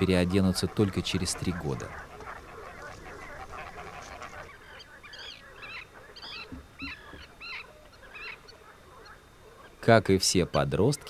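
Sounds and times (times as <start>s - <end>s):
cygnets peeping: 0.0s - 11.0s
faint background hiss: 0.0s - 11.0s.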